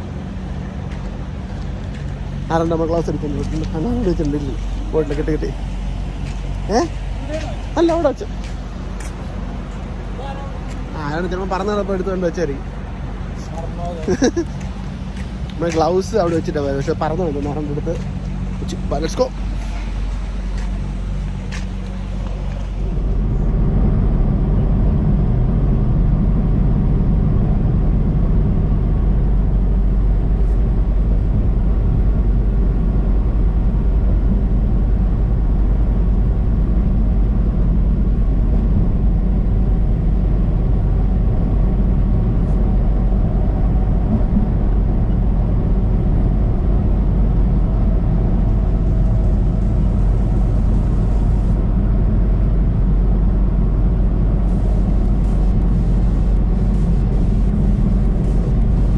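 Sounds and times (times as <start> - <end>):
road noise: 0.0 - 58.9
truck diesel engine rumble: 0.0 - 58.9.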